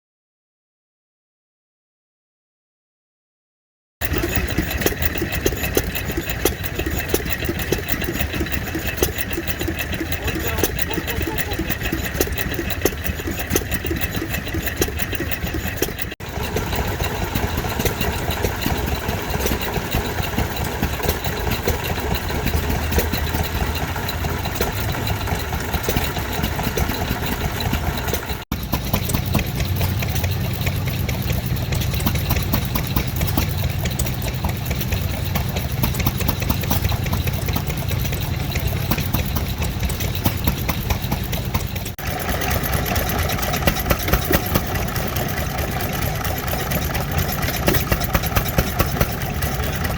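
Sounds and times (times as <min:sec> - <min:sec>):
stationary engines running: 0:04.0 - 0:49.9.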